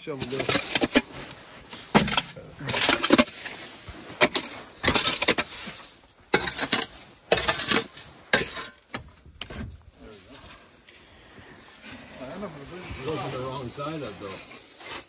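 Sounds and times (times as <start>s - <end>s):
metal shovel scraping snow: 0.0s - 15.0s.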